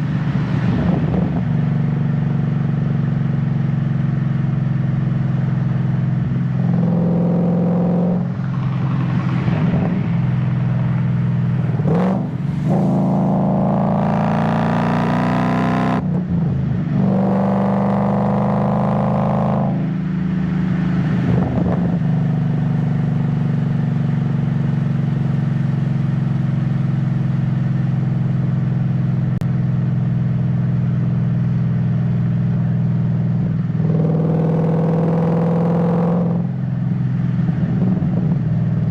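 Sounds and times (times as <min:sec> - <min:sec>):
car engine accelerating: 0:00.0 - 0:29.4, 0:31.7 - 0:38.9.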